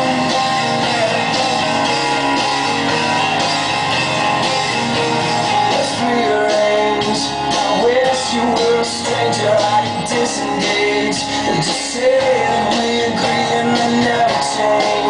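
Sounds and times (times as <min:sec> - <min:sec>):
person singing: 0:00.0 - 0:15.0
pop-rock song with guitar: 0:00.0 - 0:15.0.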